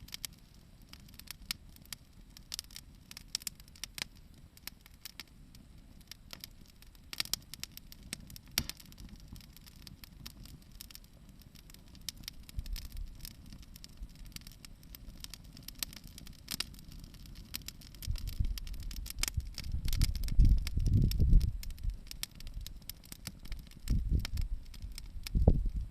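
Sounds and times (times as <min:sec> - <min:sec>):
bonfire crackling: 0:00.0 - 0:25.9
sharp pops from burning wood: 0:00.0 - 0:25.9.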